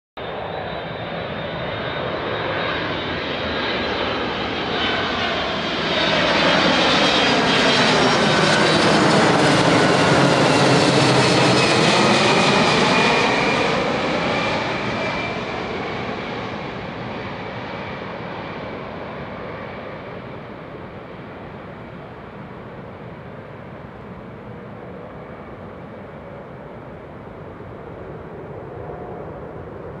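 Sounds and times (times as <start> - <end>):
jet airliner passing overhead: 0.2 - 30.0.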